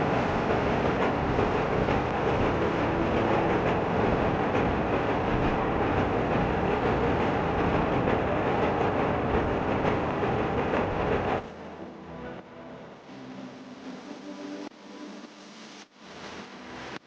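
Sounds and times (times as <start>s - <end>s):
train running on track: 0.0s - 17.0s.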